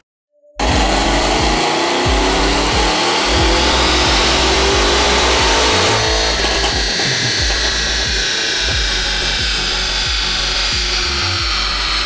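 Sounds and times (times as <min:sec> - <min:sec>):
car engine revving with whine: 0:00.6 - 0:12.0
music with steady beat: 0:00.6 - 0:12.0.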